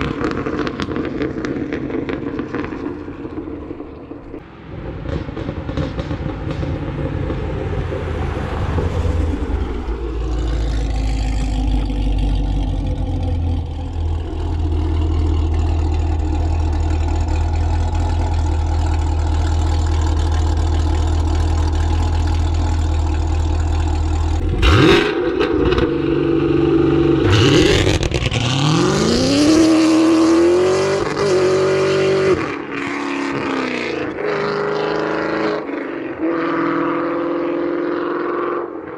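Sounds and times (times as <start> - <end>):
car engine droning and revving: 0.0 - 38.9.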